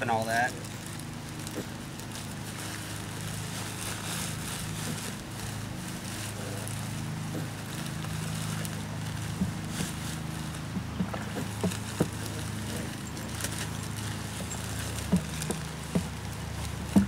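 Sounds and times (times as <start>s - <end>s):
low mechanical hum: 0.0s - 17.0s
plastic bag crinkling: 0.0s - 17.0s.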